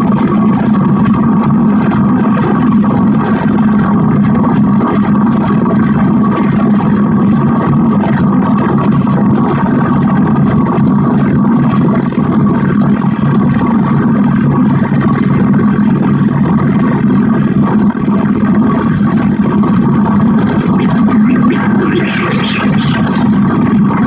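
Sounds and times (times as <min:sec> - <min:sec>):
electronic drone with low hum: 0:00.0 - 0:24.0
electronic noise haze: 0:00.0 - 0:24.0.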